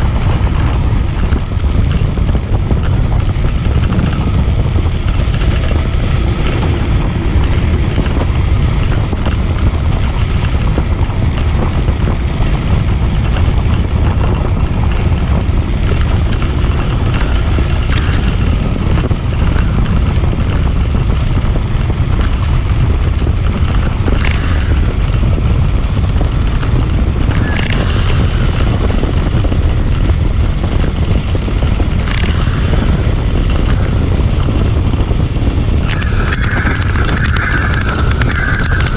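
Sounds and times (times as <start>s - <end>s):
bicycle rattling and clatter: 0.0s - 38.9s
wind buffeting microphone: 0.0s - 38.9s.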